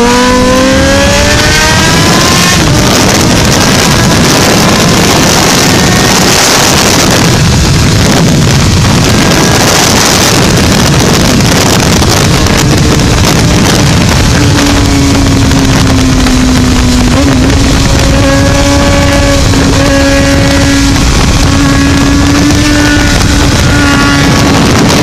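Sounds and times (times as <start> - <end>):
motorcycle engine: 0.0 - 25.0
wind rush over microphone: 0.0 - 25.0.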